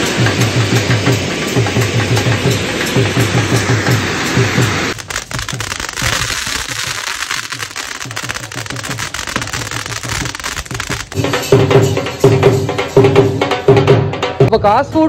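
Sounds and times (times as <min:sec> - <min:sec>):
fireworks crackling: 0:00.0 - 0:12.5.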